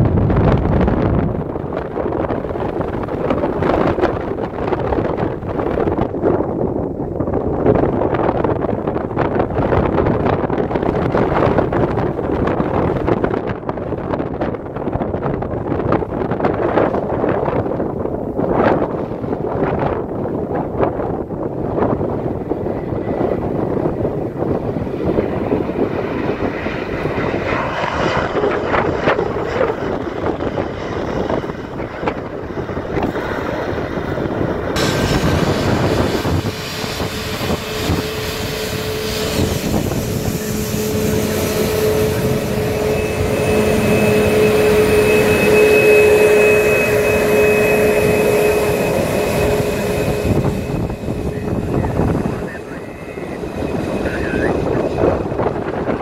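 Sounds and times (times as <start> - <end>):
jet engine high whine: 0.0 - 56.0
jet engine rumble: 0.0 - 56.0.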